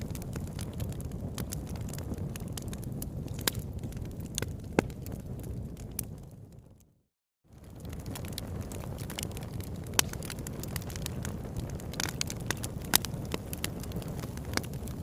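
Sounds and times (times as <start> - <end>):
wood fire crackling: 0.0 - 6.9, 7.5 - 15.0.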